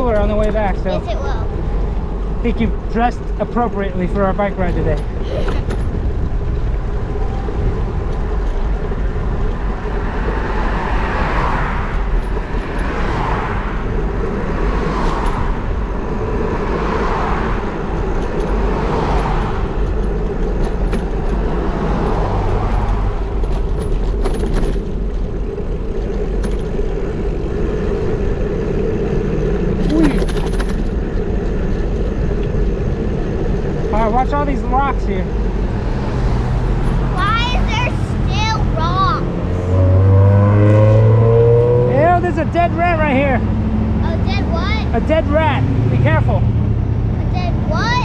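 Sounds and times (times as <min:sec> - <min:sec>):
wind rumbling on microphone: 0:00.0 - 0:47.9
cars passing: 0:00.0 - 0:48.0.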